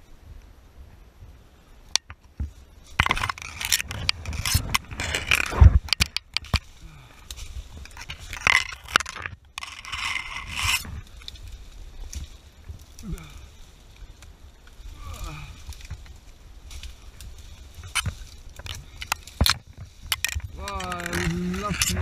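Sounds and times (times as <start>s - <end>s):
branches and leaves rustling: 0.0s - 22.0s
twigs snapping: 1.9s - 22.0s.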